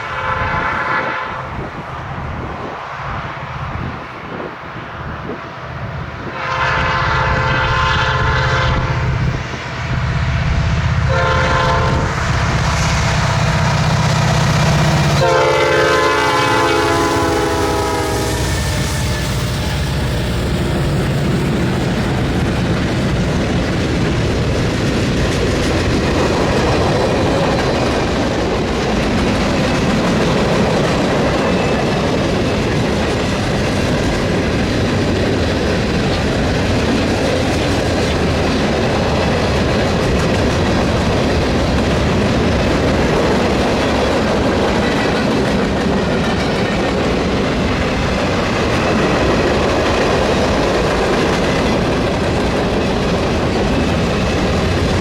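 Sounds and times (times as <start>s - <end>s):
train rolling on rails: 0.0s - 55.0s.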